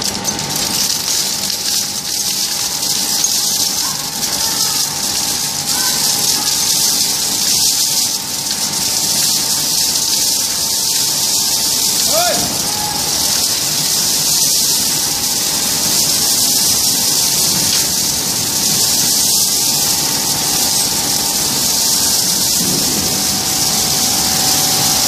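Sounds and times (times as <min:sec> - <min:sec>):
machine hum: 0:00.0 - 0:25.0
scrap rattling on vibrating feeder: 0:00.0 - 0:25.0.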